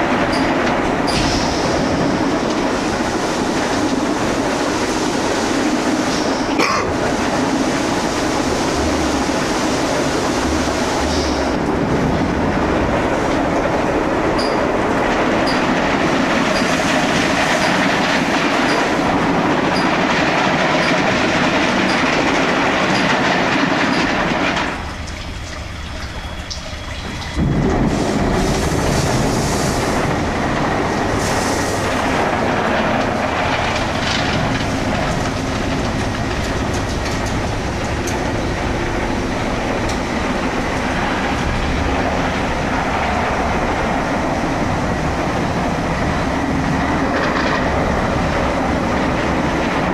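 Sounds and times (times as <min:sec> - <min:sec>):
car wash brushes and water spray: 0:00.7 - 0:21.8, 0:27.1 - 0:49.9.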